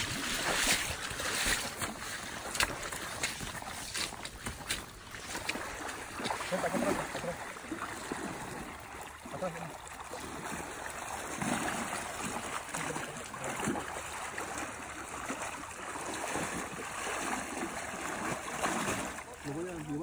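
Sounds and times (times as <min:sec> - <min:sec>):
legs wading through water: 0:00.0 - 0:20.0
river water flowing: 0:00.0 - 0:20.0.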